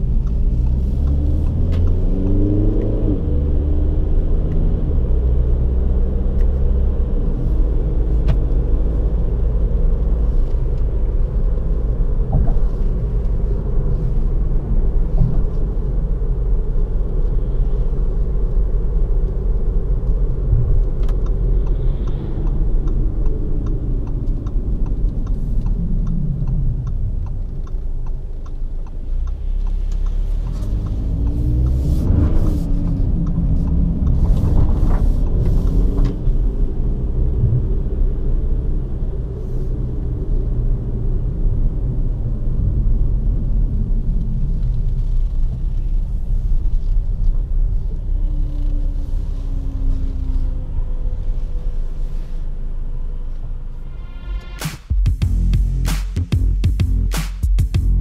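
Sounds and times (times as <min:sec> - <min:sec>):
diesel engine inside car: 0:00.0 - 0:54.3
road rumble: 0:00.0 - 0:58.0.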